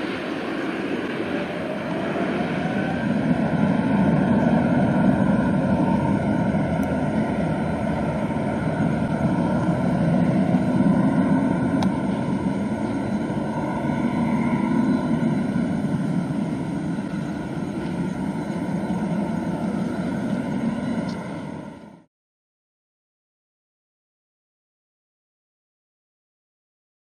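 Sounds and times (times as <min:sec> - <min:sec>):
low jet rumble: 0:00.0 - 0:22.1.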